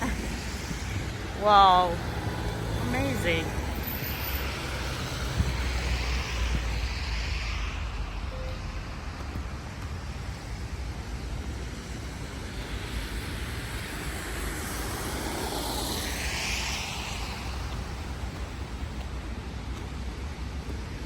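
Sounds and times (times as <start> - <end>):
passing vehicle hiss: 0.0 - 19.6
street noise: 0.0 - 21.0
wind rumbling on microphone: 0.0 - 21.0.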